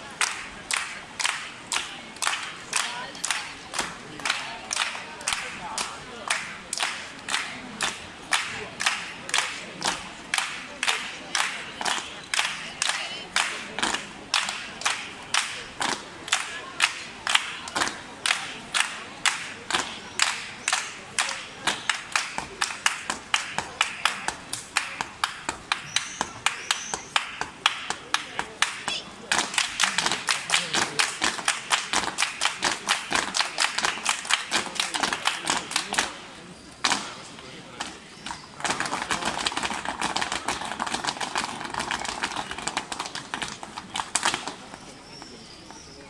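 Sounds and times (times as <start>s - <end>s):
group clapping in rhythm: 0.0s - 37.2s, 38.6s - 44.6s.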